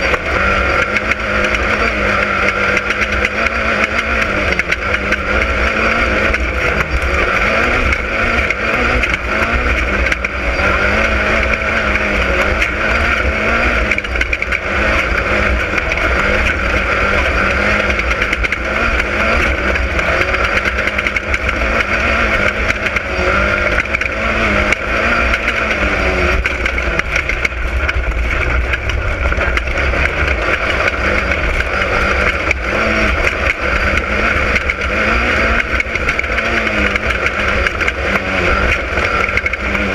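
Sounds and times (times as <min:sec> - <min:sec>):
heavy low rumble: 0:00.0 - 0:39.9
race car engine revving: 0:00.0 - 0:39.9.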